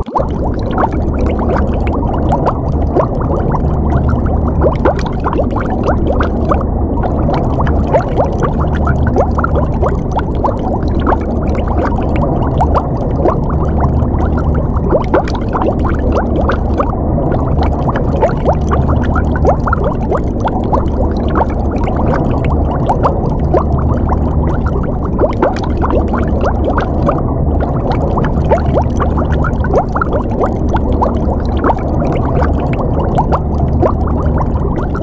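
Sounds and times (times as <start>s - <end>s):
small bubbles popping: 0.0s - 35.0s
steady low rumble: 0.0s - 35.0s
underwater bubbling and gurgling: 0.0s - 35.0s.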